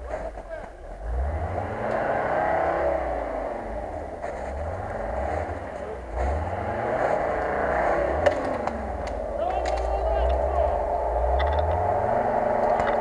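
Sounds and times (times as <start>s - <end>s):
car engine revving in surges: 0.1s - 13.0s.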